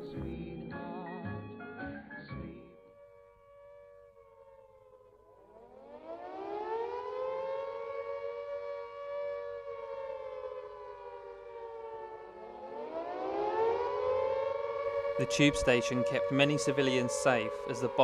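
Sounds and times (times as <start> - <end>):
air-raid siren wailing: 2.7 - 18.0.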